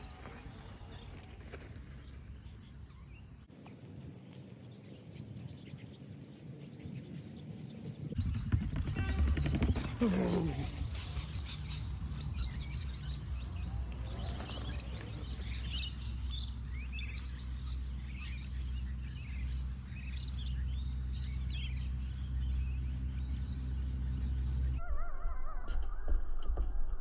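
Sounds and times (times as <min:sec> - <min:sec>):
birds chirping and calling: 0:00.0 - 0:26.1.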